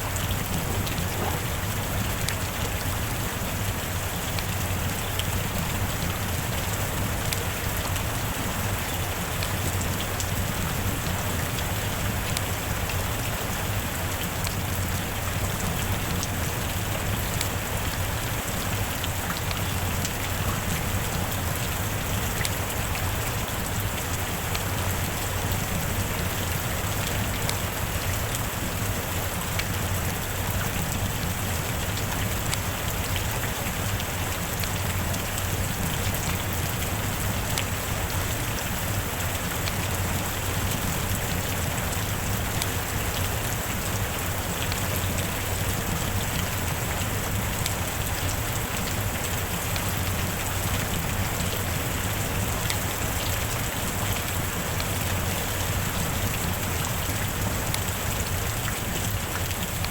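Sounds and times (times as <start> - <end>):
heavy rain hiss: 0.0 - 59.9
raindrop ticks: 0.1 - 59.9.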